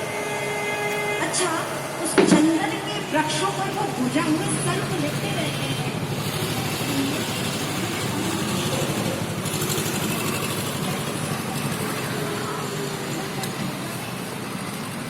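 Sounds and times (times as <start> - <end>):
background traffic noise: 0.0 - 15.0.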